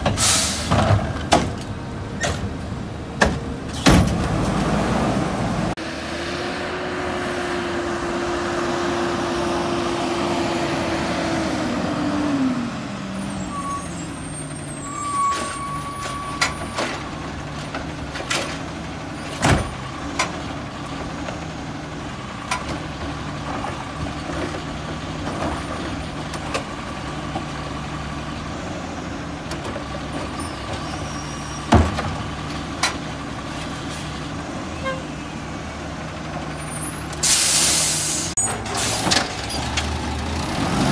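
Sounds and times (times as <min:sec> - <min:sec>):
garbage truck engine: 0:00.0 - 0:40.9.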